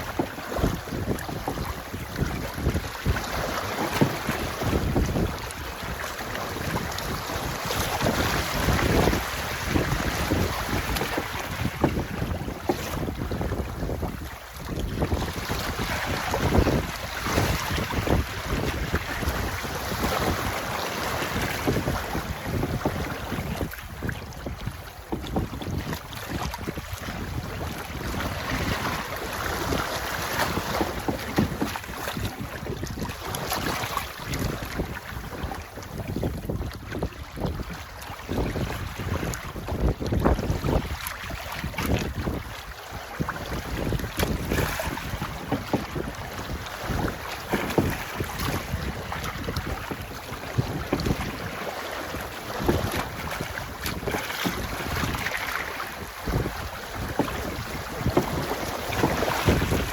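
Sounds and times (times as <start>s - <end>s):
water splashing along hull: 0.0s - 59.9s
wind buffeting microphone: 0.0s - 59.9s.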